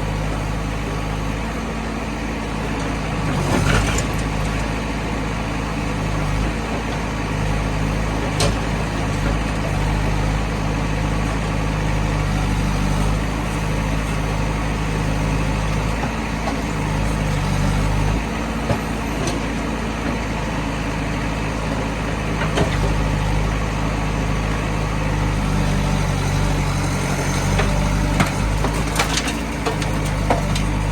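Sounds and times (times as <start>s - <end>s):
heavy diesel engine under load: 0.0s - 30.9s.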